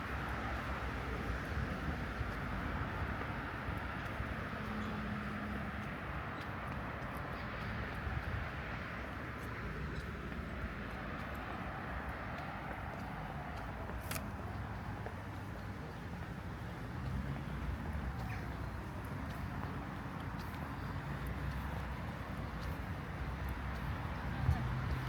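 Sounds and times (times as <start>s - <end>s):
traffic hum: 0.0s - 25.0s.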